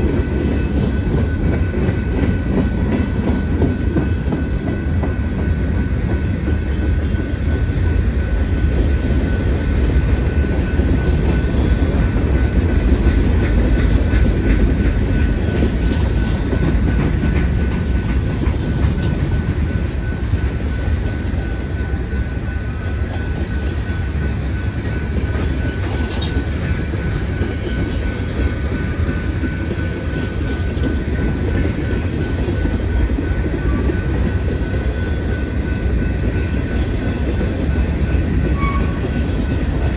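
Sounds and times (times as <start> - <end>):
train wheels rumbling and clacking: 0.0 - 39.9.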